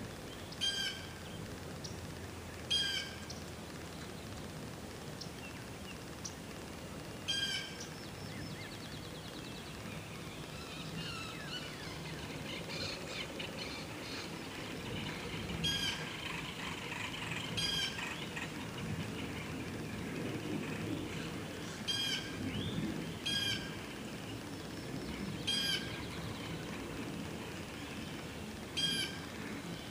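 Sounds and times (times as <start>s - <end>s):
low steady hum: 0.0s - 29.9s
birds calling and singing: 0.1s - 2.1s, 2.7s - 4.4s, 7.3s - 29.9s.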